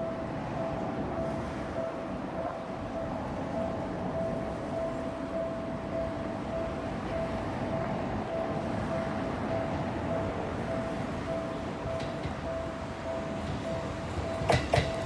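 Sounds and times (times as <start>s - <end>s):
level crossing alarm ringing: 0.0s - 15.0s.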